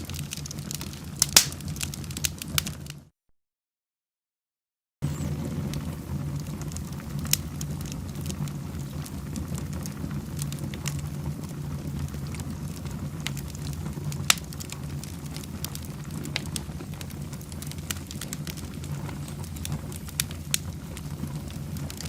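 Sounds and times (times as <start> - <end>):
fire crackling and popping: 0.0 - 3.1, 5.0 - 22.0.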